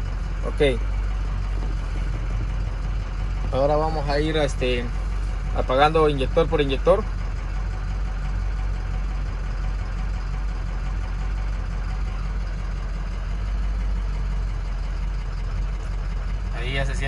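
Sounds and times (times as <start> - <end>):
diesel engine idling with misfire: 0.0 - 17.0.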